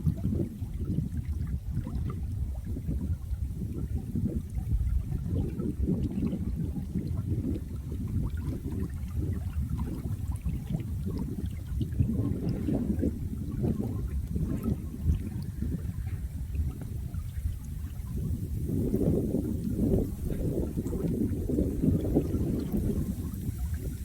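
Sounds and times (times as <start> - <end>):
water burbling and gurgling: 0.0 - 24.0.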